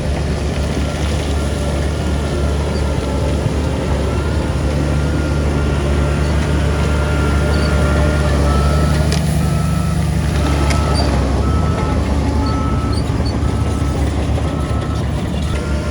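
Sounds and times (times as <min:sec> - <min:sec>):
heavy diesel machinery running: 0:00.0 - 0:15.9
reversing alarm beeping: 0:02.4 - 0:15.9.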